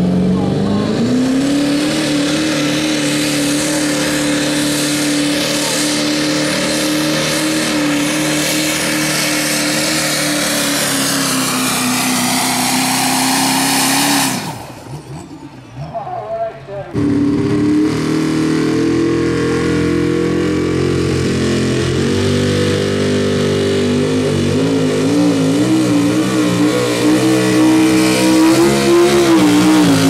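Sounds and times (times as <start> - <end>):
pickup engine revving high: 0.0 - 30.0.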